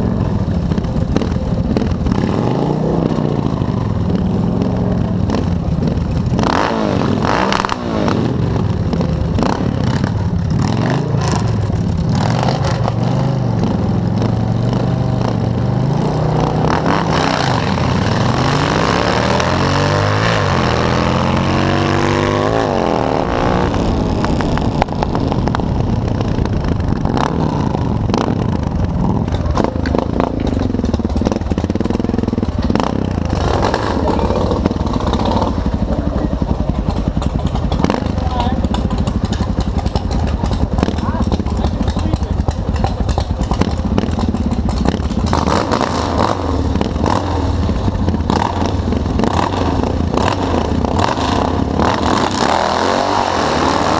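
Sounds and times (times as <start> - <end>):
motorcycle engine revving: 0.0 - 53.9
motorcycle engines running: 0.0 - 53.9.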